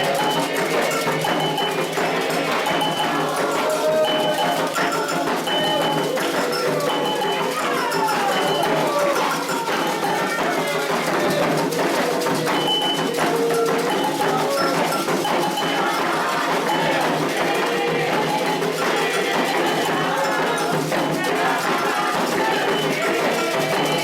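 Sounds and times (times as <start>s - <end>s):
bell clacking rhythm: 0.0s - 24.0s
struck percussion: 0.0s - 24.0s
voices singing: 0.0s - 24.0s.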